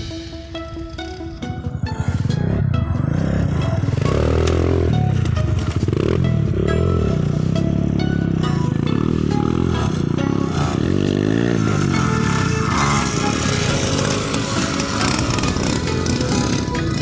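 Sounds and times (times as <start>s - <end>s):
mini motocross bike engine revving: 1.9s - 17.0s.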